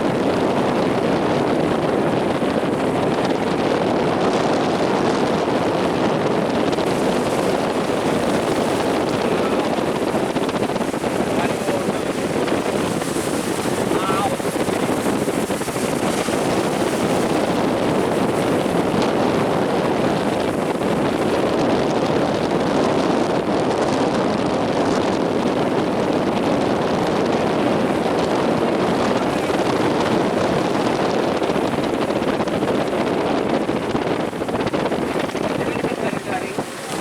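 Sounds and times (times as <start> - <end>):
heavy surf roaring: 0.0 - 37.0
wind buffeting microphone: 0.0 - 37.0.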